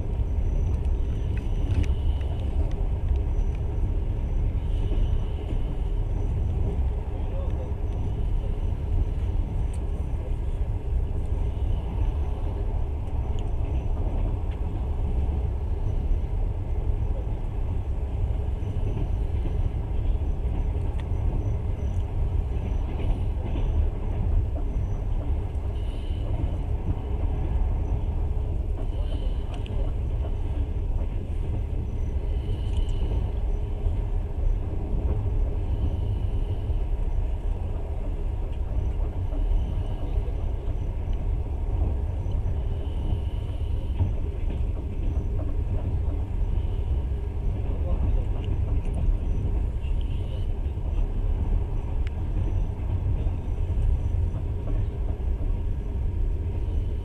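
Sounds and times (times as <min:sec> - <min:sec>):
train rumbling on track: 0:00.0 - 0:57.0.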